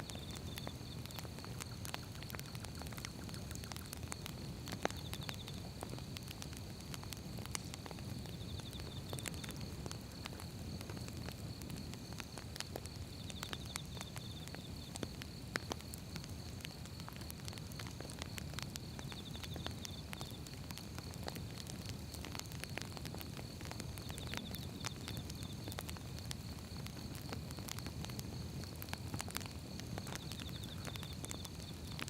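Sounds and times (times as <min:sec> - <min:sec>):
logs crackling and popping: 0:00.0 - 0:32.0
low rumble of flame: 0:00.0 - 0:32.0.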